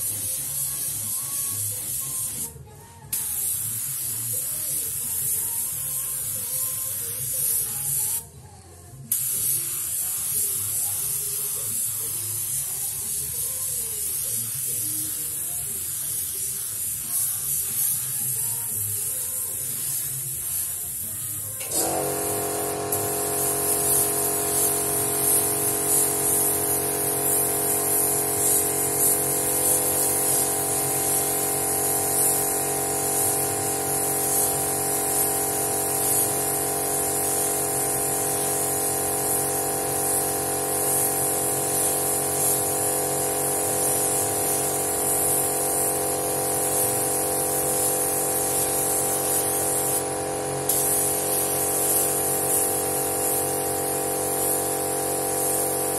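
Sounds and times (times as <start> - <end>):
spray gun hissing: 9.1 - 55.9.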